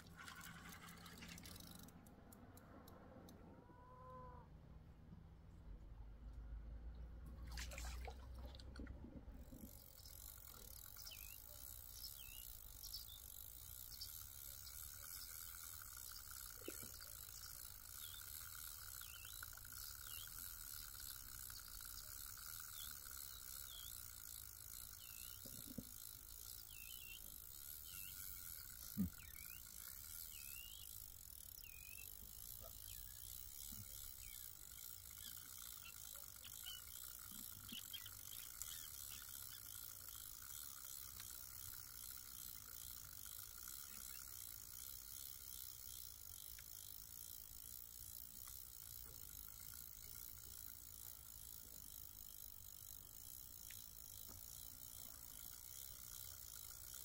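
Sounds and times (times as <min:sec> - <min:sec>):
fishing reel ticking: 0:00.0 - 0:03.4, 0:09.2 - 0:57.0.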